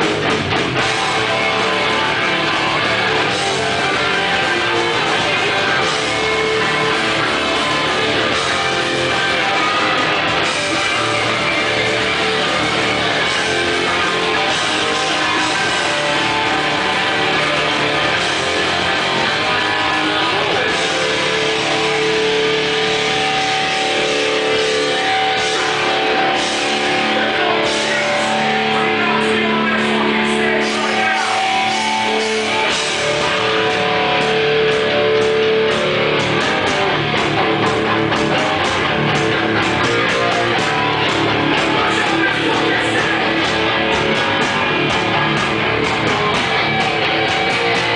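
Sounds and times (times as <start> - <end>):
punk band playing live: 0.0 - 47.9.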